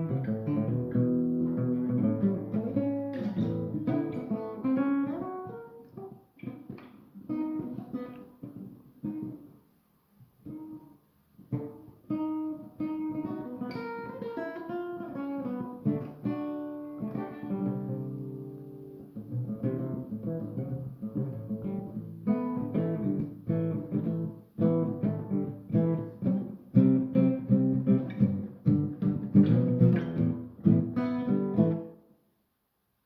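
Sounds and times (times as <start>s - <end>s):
guitar picking and strumming: 0.0s - 32.0s.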